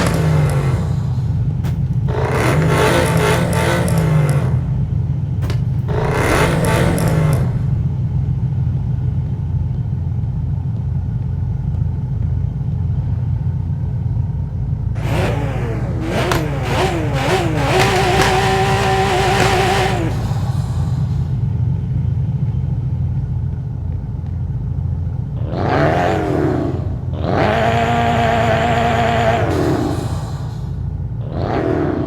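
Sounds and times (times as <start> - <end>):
car engine rumbling: 0.0 - 31.4.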